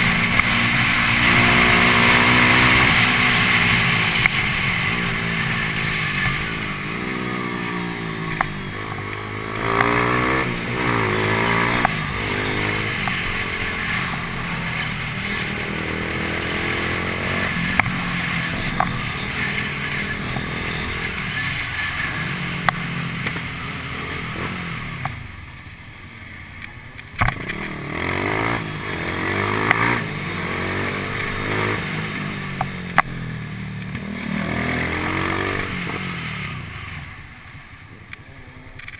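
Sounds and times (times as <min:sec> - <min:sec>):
motorcycle engines accelerating: 0:00.0 - 0:25.4, 0:26.6 - 0:38.9.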